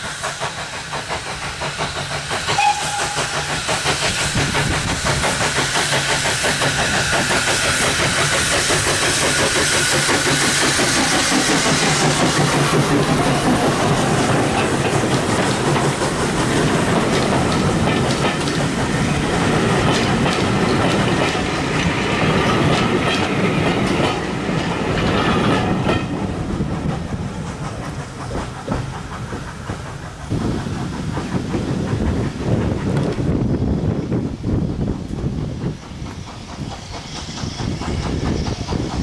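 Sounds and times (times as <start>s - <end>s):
train coaches rolling past: 0.0s - 39.0s
wheels clicking over rail joints: 0.4s - 33.5s.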